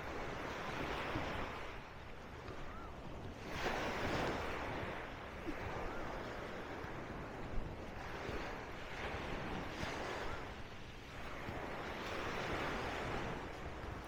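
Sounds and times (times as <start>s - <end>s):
small waves breaking on sand: 0.0s - 14.0s
wind buffeting microphone: 0.0s - 14.0s.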